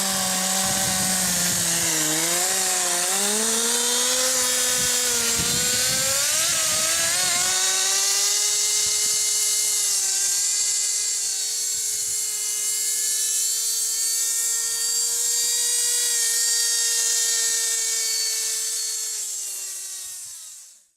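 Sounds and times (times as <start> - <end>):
small nitro engine whining: 0.0 - 20.9.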